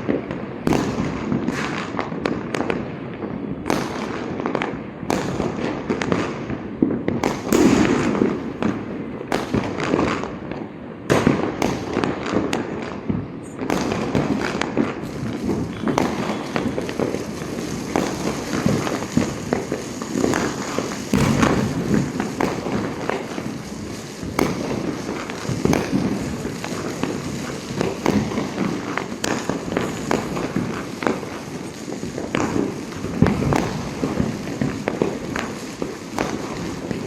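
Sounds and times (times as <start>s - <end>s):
firecracker bangs: 0.0s - 2.3s, 5.1s - 10.3s, 11.1s - 37.0s
distant fireworks rumble: 0.0s - 37.0s.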